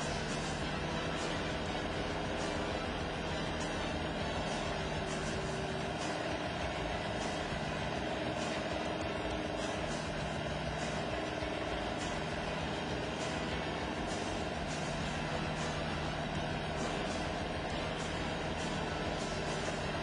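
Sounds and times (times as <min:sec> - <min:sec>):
loader engine running: 0:00.0 - 0:20.0.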